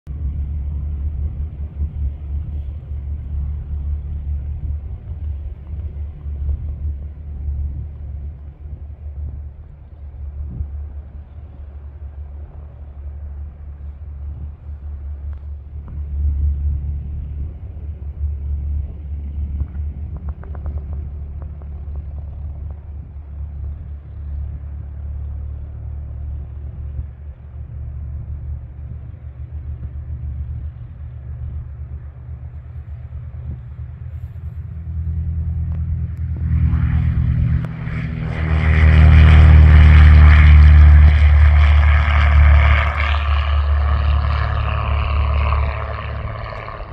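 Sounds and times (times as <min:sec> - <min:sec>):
distant airplane engine rumble: 0:00.0 - 0:46.9.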